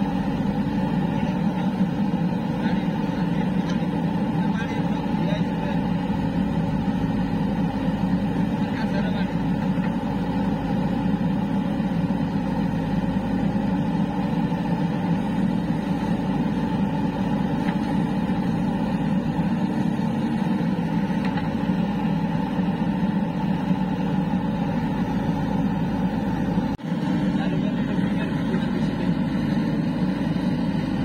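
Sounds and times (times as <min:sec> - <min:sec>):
diesel engine running steadily: 0:00.0 - 0:31.0.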